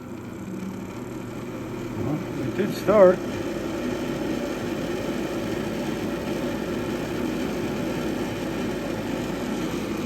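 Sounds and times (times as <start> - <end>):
furnace motor whirring: 0.0 - 10.0.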